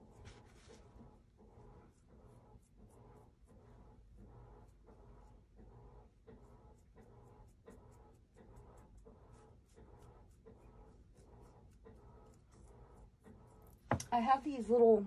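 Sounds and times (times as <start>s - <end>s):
wet paintbrush strokes: 0.0s - 14.8s.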